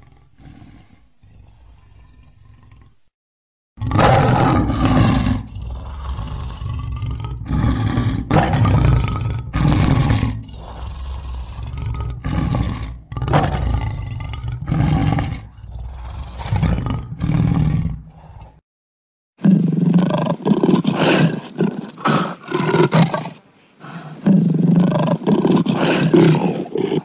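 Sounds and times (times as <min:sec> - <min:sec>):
lion roaring: 0:00.0 - 0:03.0, 0:03.8 - 0:18.6, 0:19.4 - 0:27.0.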